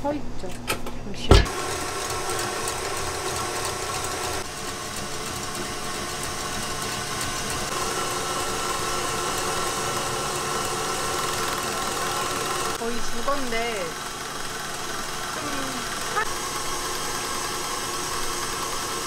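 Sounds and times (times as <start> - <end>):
stand mixer whisking: 1.5 - 19.0.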